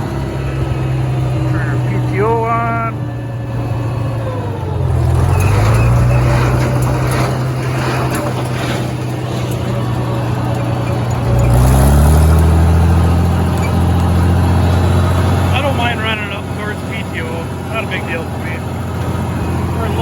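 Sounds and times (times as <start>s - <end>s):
baler machinery rattling: 0.0s - 20.0s
tractor engine running: 0.0s - 20.0s.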